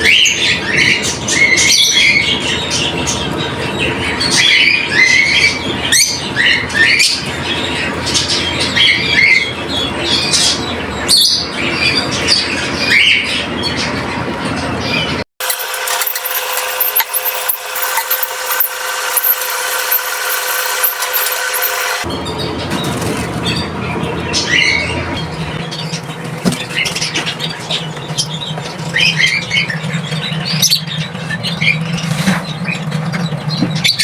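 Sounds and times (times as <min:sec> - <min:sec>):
caged birds squawking and chirping: 0:00.0 - 0:34.0.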